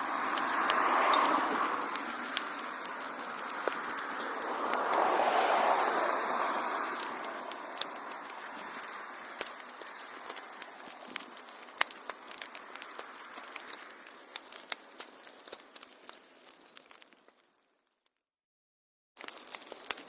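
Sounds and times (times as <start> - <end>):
rush of flame: 0.0 - 17.2
wood fire crackling: 0.0 - 18.2, 19.2 - 20.0.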